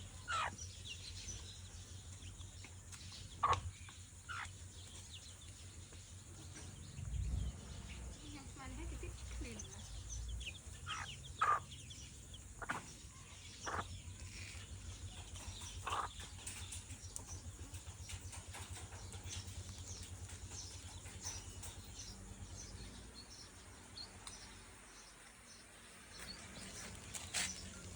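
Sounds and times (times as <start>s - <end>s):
chickens chirping: 0.0s - 27.9s
low rumbling background: 0.0s - 27.9s.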